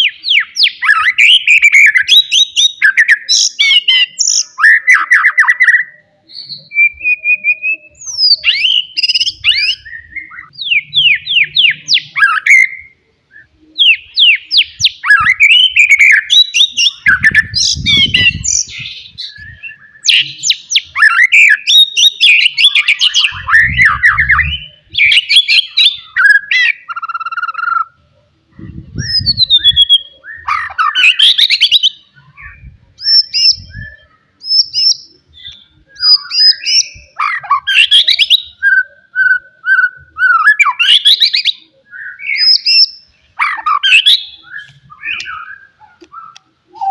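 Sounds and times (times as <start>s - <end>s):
songbird singing whistles and trills: 0.0s - 46.9s.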